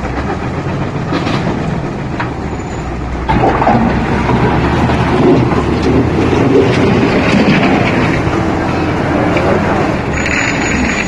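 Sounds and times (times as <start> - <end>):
heavy diesel machinery running: 0.0 - 11.0.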